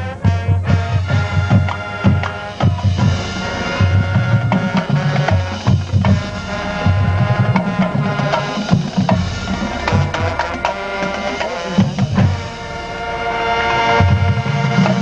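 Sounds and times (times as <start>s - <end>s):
drums: 0.0s - 15.0s
wind instrument chords: 0.0s - 15.0s
sharp percussion strikes: 1.2s - 15.0s.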